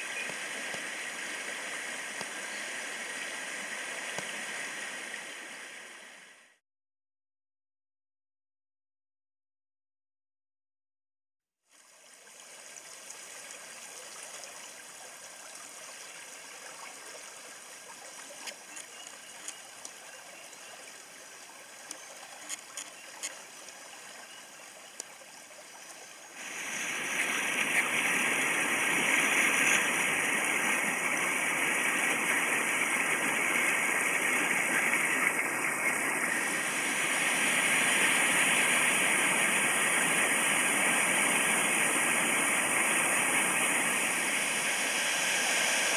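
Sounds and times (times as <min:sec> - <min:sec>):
water rushing over rapids: 0:00.0 - 0:06.5, 0:11.8 - 0:45.9
water flowing softly: 0:00.0 - 0:06.6, 0:11.6 - 0:45.9.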